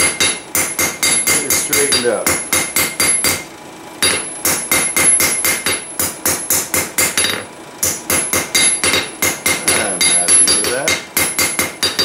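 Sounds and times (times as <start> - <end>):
hammer striking metal on anvil: 0.0 - 12.0.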